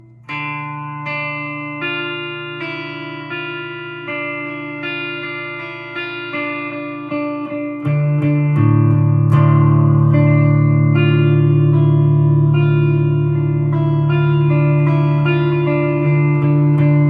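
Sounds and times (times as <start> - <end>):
guitar plucked melody: 0.0 - 17.0.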